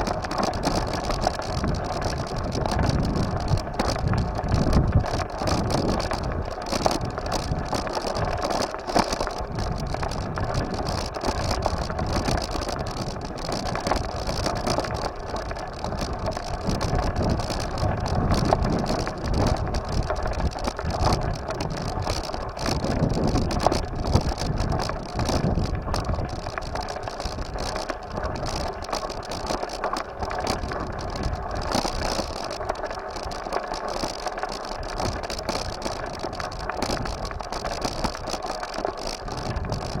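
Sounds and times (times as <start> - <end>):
bike ground noise: 0.0 - 40.0
small knocks and rattles: 0.0 - 40.0
wind rumble: 0.0 - 40.0.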